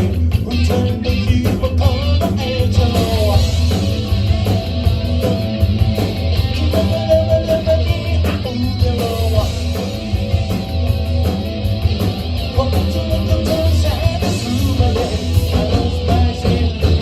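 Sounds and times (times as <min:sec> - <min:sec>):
bass and drums: 0:00.0 - 0:17.0
electric guitar: 0:00.0 - 0:17.0.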